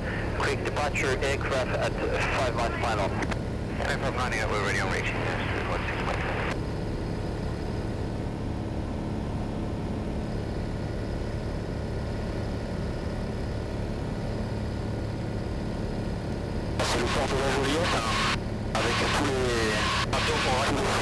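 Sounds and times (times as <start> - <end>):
airplane engine droning: 0.0 - 21.0.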